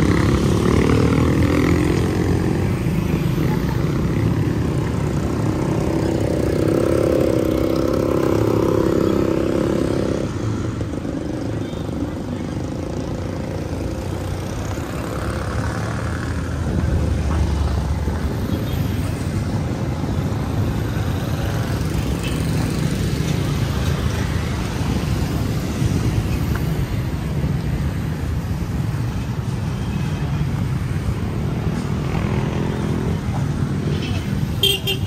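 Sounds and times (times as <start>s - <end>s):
traffic engine rumble: 0.0s - 35.0s.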